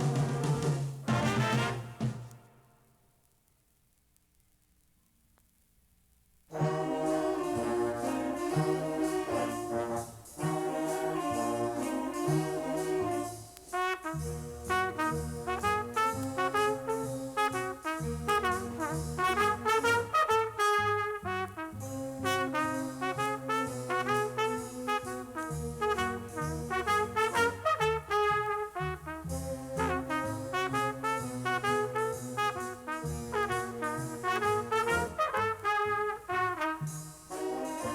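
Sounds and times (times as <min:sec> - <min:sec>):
big band jazz brass chords: 0:00.0 - 0:02.6, 0:06.5 - 0:37.9
trumpet and trombone figures: 0:00.0 - 0:03.0, 0:06.5 - 0:37.9.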